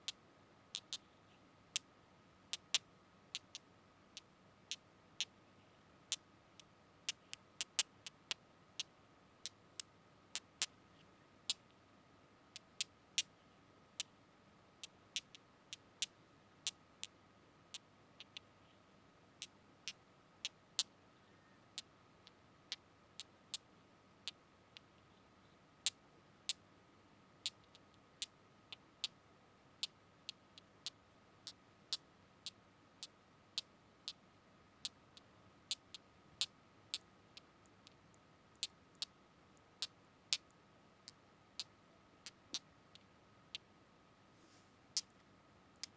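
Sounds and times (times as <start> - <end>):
faint high hum: 0.0 - 45.9.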